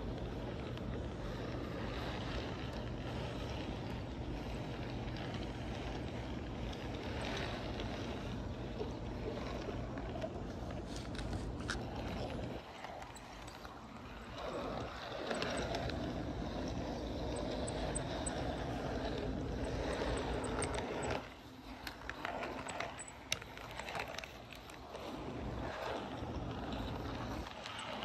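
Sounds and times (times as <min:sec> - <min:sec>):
model train rumbling on track: 0:00.0 - 0:28.0
wheels clicking on rails: 0:00.0 - 0:28.0.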